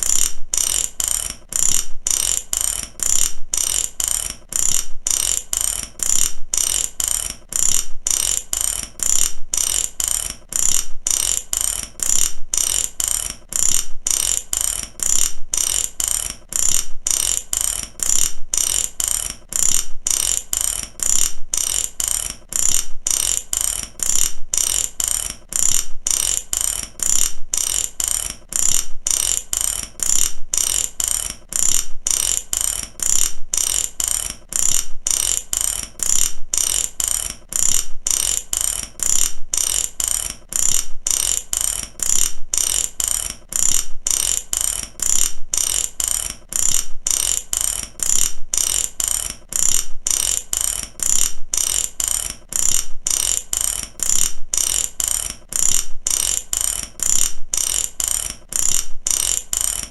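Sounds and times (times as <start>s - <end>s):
ratchet wrench clicking: 0.0s - 59.9s.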